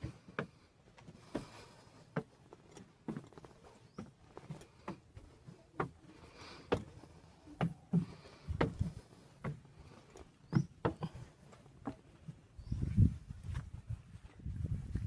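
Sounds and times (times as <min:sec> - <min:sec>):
footsteps: 0:00.0 - 0:15.0.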